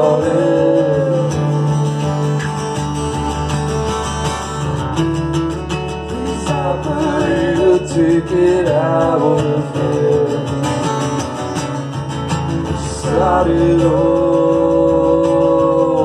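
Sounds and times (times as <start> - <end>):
acoustic guitars strumming: 0.0 - 16.0
guitar melody with bending pitch: 0.0 - 16.0.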